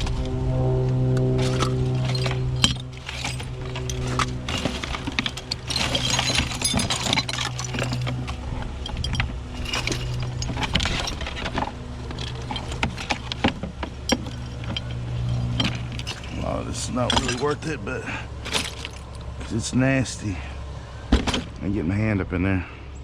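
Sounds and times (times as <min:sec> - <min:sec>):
steady low hum: 0:00.0 - 0:23.0
trash clinking and rattling: 0:01.4 - 0:21.7.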